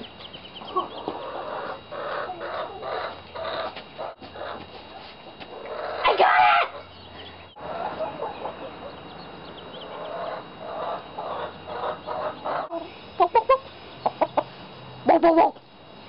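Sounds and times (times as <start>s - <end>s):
chickens clucking: 0.0s - 14.7s.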